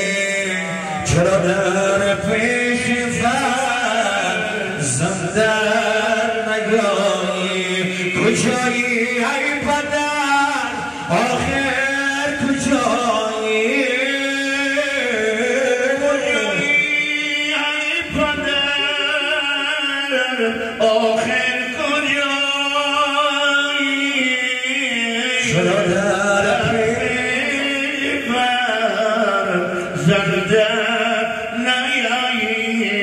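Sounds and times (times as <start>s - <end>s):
men singing devotional song: 0.0s - 33.0s.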